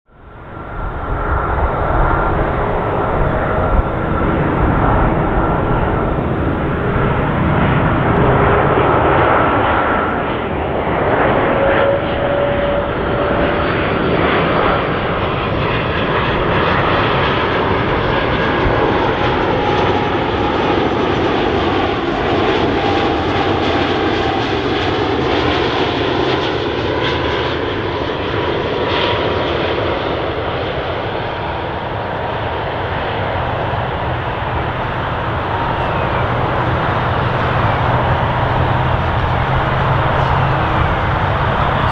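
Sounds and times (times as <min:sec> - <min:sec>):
jet engine roar: 0:00.1 - 0:41.9.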